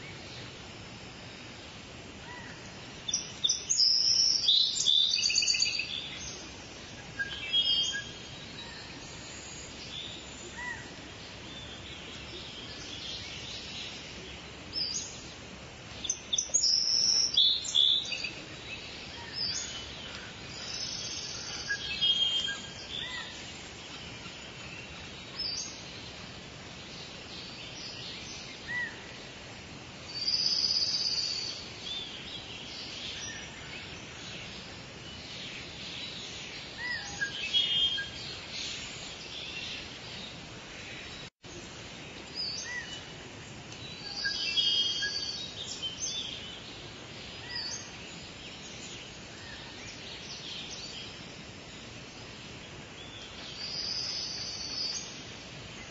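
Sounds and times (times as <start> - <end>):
background hiss: 0.0 - 55.9
birds chirping: 1.7 - 55.9.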